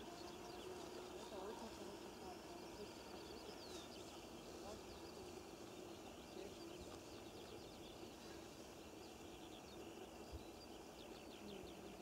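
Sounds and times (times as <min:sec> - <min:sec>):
faint bird chirps: 0:00.0 - 0:12.0
open-air hiss: 0:00.0 - 0:12.0.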